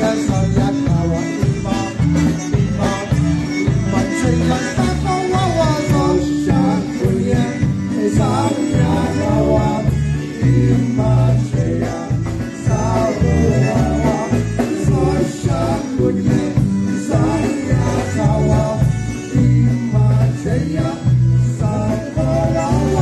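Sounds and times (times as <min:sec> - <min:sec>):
polka band playing: 0:00.0 - 0:23.0
steady bass beat: 0:00.0 - 0:23.0.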